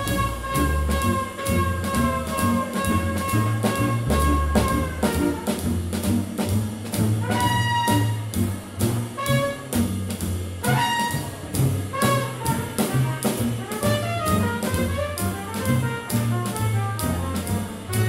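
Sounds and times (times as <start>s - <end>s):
swing jazz band playing: 0.0s - 18.0s.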